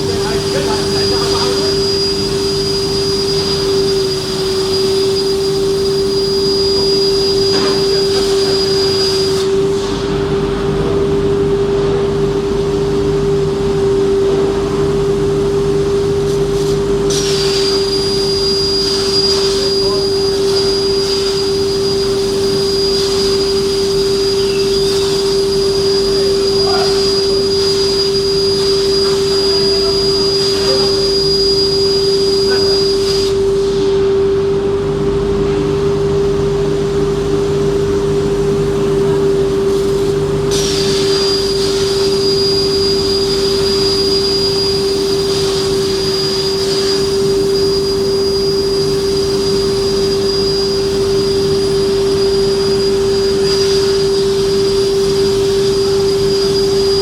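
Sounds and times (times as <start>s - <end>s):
plasma cutting machine whining: 0.0s - 57.0s.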